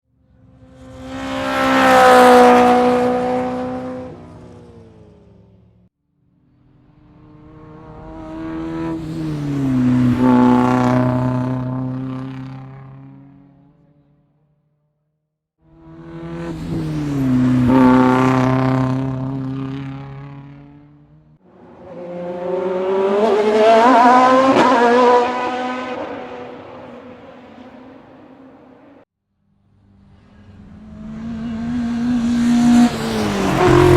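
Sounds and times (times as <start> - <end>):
race car passing at speed: 0.4 - 5.6, 6.6 - 13.6, 15.7 - 29.0, 29.8 - 33.9.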